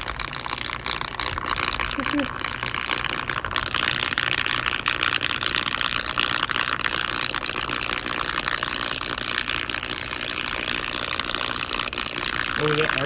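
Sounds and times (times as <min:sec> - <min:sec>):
circuit board sizzling and crackling: 0:00.0 - 0:13.0.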